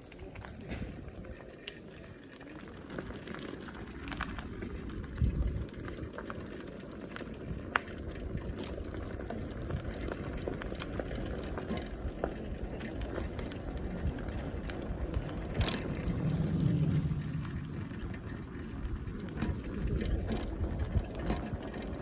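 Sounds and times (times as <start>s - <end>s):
bicycle rumbling on rough path: 0.0s - 22.0s
tyres crackling over grit: 0.0s - 22.0s.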